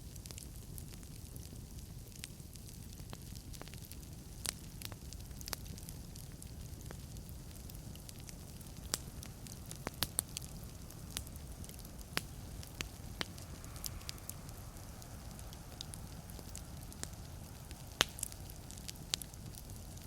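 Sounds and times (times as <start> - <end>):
logs crackling and popping: 0.0 - 20.0
fire flames hissing: 0.1 - 20.0.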